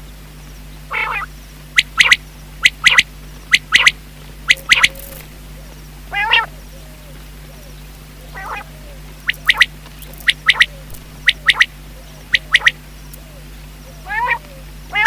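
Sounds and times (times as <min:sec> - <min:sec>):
quail song: 0:00.0 - 0:15.0
harsh nasal bird call: 0:00.9 - 0:15.0.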